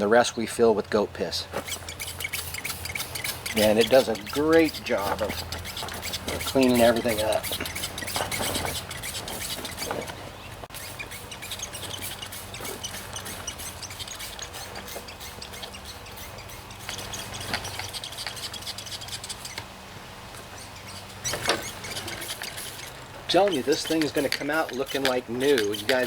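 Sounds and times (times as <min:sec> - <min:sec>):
steady low hum: 0:00.0 - 0:26.0
spray bottle squirts: 0:01.6 - 0:09.9, 0:10.7 - 0:19.6, 0:20.6 - 0:26.0.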